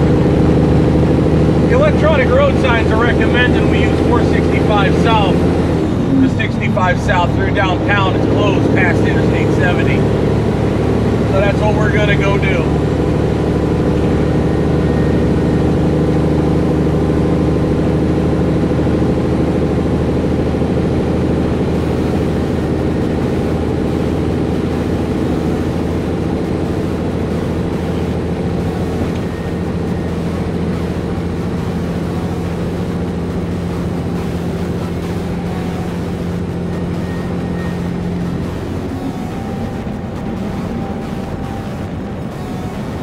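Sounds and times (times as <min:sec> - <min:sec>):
truck diesel engine cruising: 0:00.0 - 0:43.0.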